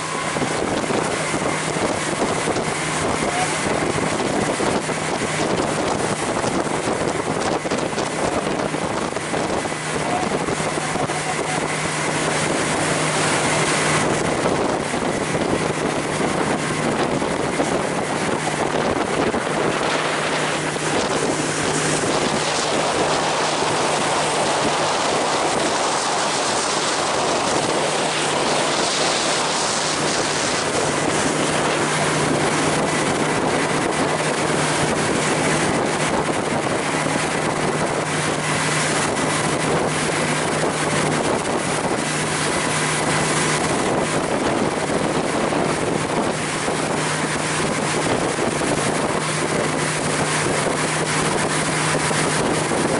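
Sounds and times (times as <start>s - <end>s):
motorboat engine humming: 0.0s - 52.9s
rushing water: 0.0s - 52.9s
wind buffeting microphone: 0.0s - 52.9s.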